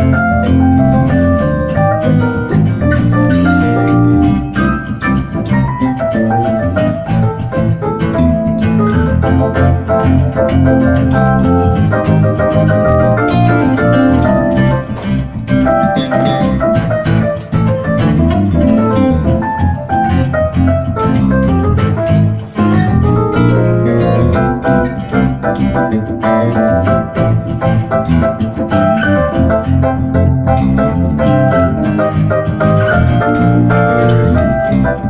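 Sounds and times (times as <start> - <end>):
electric guitar: 0.0 - 35.0
keyboard organ runs: 0.0 - 35.0.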